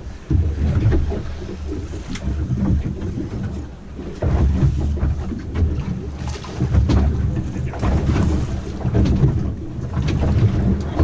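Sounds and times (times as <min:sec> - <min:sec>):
choppy sea washing: 0:00.0 - 0:11.0
wind buffeting microphone: 0:00.0 - 0:11.0.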